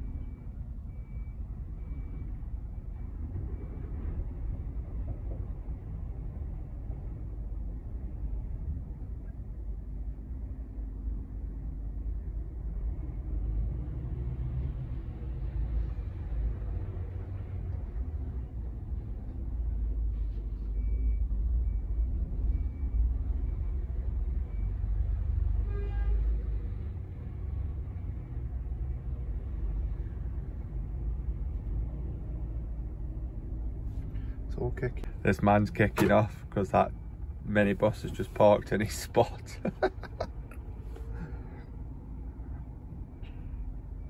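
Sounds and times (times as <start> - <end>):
diesel engines rumbling: 0.0 - 44.0.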